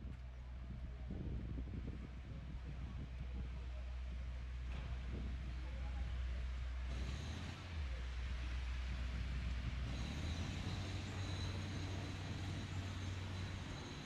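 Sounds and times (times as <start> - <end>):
road noise hiss: 0.0 - 14.0
vehicle engine rumble: 0.0 - 14.0.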